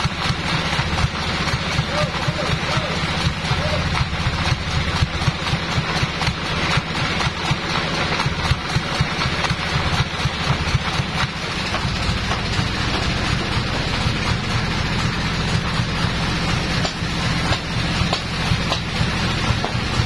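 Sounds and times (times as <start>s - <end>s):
sawmill engine idling: 0.0s - 20.0s.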